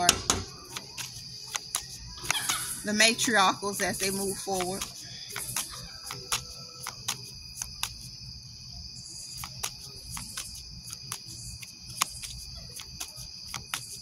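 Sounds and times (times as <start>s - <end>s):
crickets trilling: 0.0s - 14.0s
cards being shuffled: 0.5s - 3.1s, 3.7s - 8.2s, 9.2s - 14.0s.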